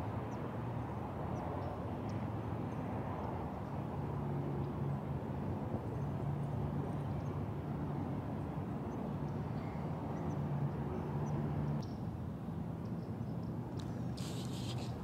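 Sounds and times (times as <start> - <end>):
open-air background noise: 0.0 - 15.0.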